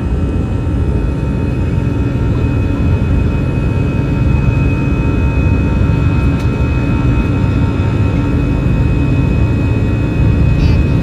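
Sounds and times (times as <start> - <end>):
airplane engines during takeoff: 0.0 - 11.0.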